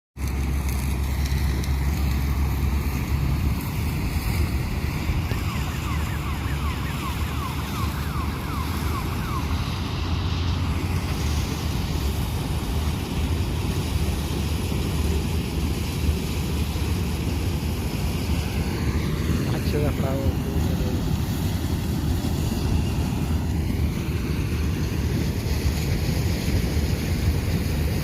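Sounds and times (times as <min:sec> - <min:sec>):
combine harvester engine drone: 0:00.2 - 0:28.0.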